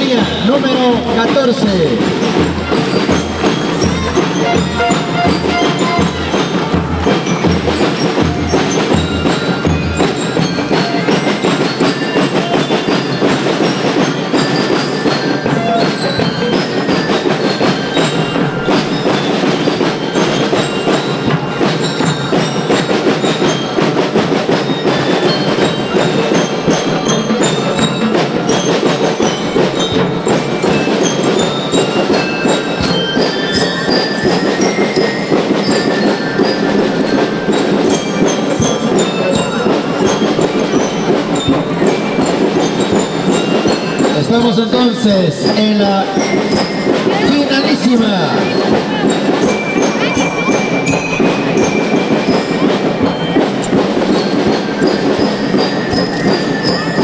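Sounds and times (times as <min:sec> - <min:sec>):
bell lyres ringing melody: 0:00.0 - 0:57.0
drums and percussion: 0:00.0 - 0:57.0.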